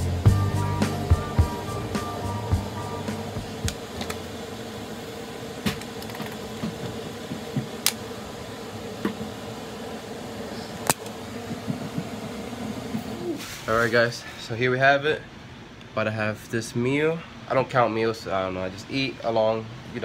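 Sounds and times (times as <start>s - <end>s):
fan humming: 0.0s - 20.0s.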